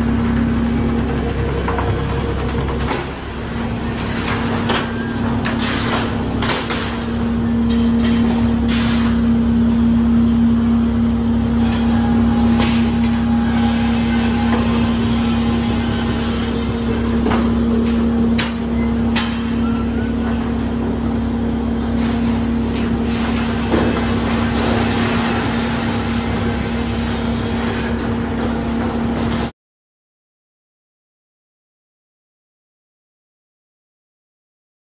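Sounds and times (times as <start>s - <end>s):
sawmill machinery humming: 0.0s - 29.5s.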